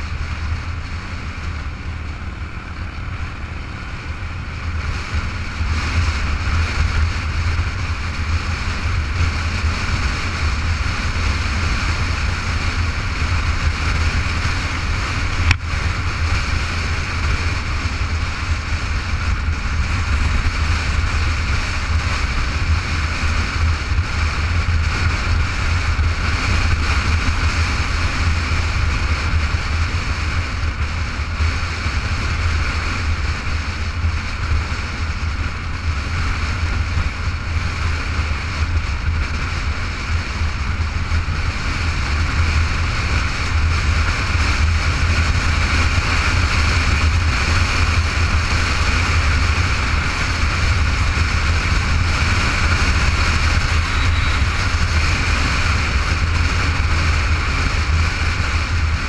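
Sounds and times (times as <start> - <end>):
motorcycle engine drone: 0.0 - 59.0
wind rushing over microphone: 0.0 - 59.0.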